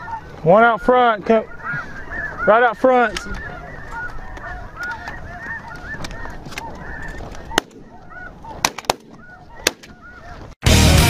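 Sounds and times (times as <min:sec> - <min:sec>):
snow geese yelping: 0:00.0 - 0:10.6.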